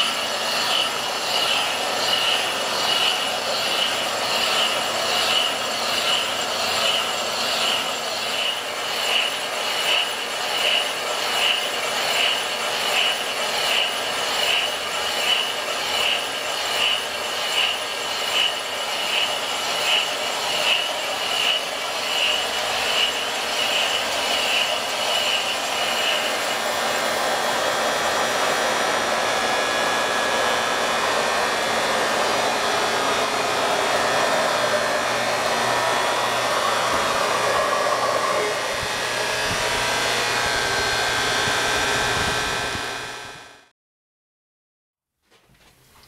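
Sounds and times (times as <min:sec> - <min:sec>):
lathe cutting metal: 0:00.0 - 0:43.7.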